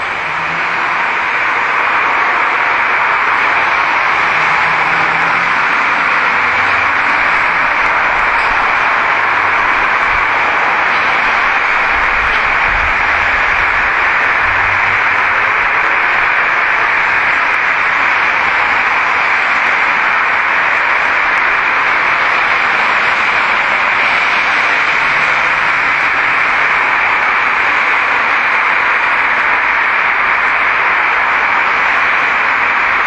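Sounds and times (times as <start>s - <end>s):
loud steady hiss: 0.0s - 33.0s.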